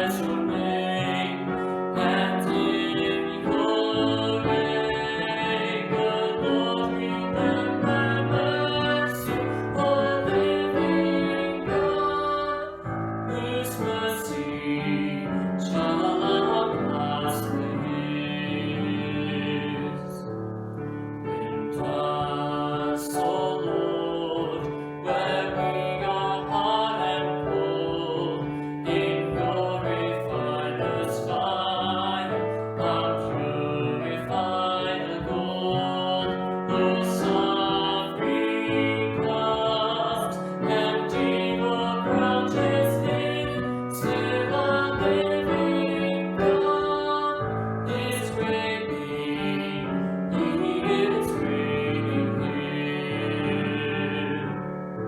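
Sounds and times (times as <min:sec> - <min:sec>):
person singing: 0:00.0 - 0:20.4, 0:21.6 - 0:54.7
piano: 0:00.0 - 0:55.0.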